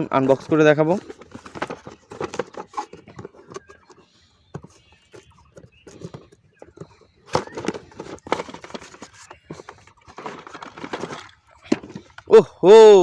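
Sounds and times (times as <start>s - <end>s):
packaging clicks and rustles: 0.0s - 12.3s.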